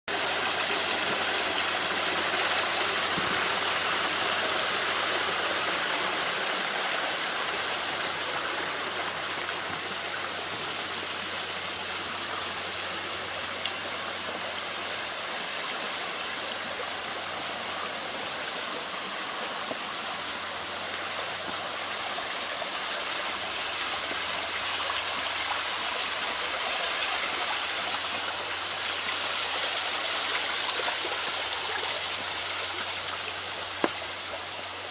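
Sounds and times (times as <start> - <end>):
running water rushing: 0.1 - 34.9.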